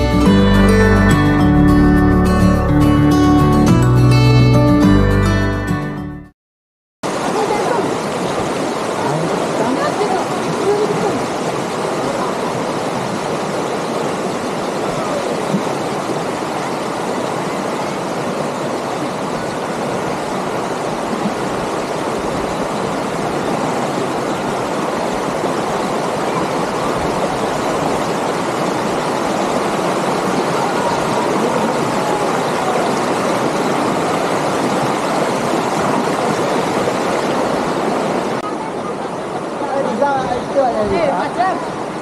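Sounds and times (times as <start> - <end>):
river water rushing over rocks: 7.0 - 42.0.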